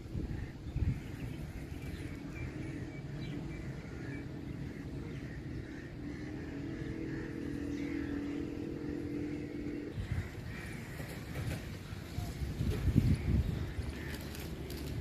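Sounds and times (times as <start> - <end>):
distant engine humming: 0.0 - 15.0
low outdoor rumble: 0.0 - 15.0.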